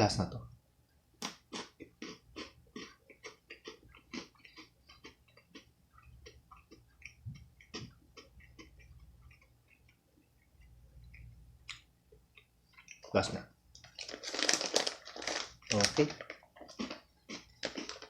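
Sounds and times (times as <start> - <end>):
chewing crunchy snack: 1.2 - 13.1, 13.8 - 18.0.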